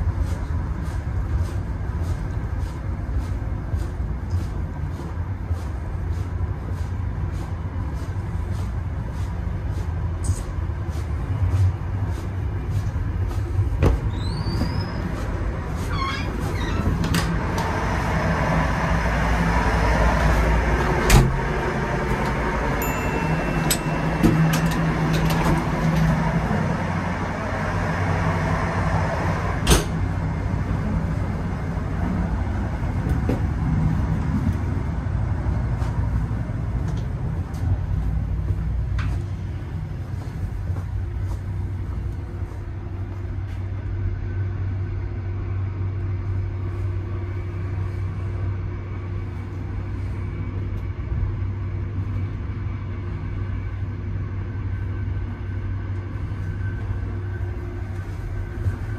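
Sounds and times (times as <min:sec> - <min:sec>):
train rumble: 0:00.0 - 0:58.9.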